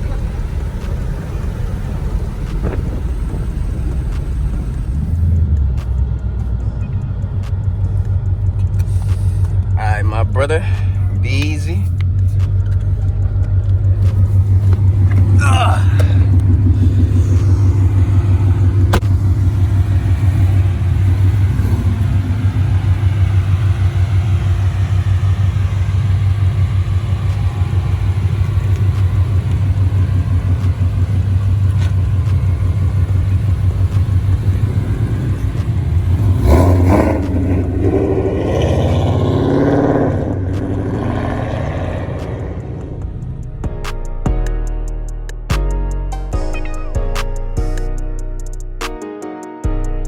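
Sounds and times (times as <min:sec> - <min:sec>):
deep exhaust rumble: 0:00.0 - 0:45.6.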